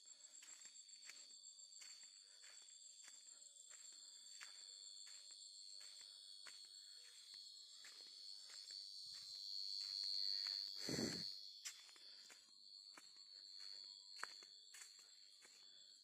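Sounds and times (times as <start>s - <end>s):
insect trill: 0.0s - 16.0s
pulsing insect chirp: 0.0s - 16.0s
soft footsteps on dirt: 0.2s - 15.8s.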